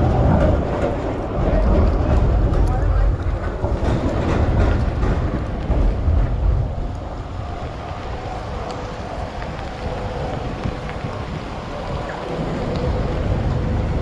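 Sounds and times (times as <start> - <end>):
rain wash: 0.0 - 14.0
traffic rumble: 0.0 - 14.0.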